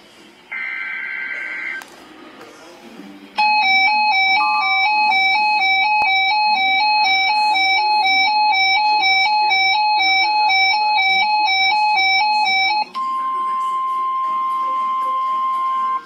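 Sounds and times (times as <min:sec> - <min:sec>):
two-tone electronic alarm beep: 0:00.5 - 0:01.8, 0:03.4 - 0:16.0.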